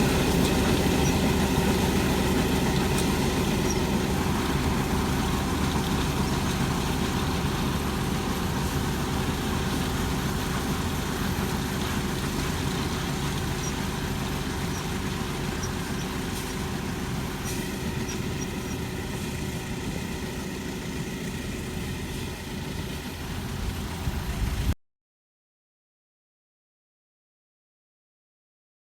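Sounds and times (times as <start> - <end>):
farm machine engine running: 0.0 - 24.8.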